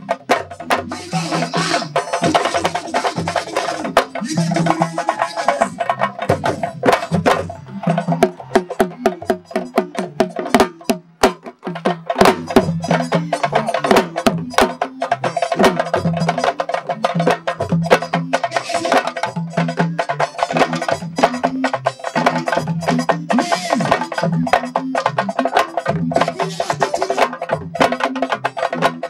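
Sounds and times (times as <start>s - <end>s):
drums played fast: 0.0s - 29.0s.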